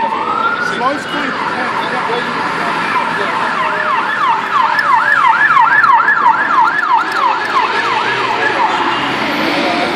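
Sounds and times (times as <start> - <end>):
city traffic hum: 0.0 - 9.9
emergency vehicle siren: 0.0 - 9.9.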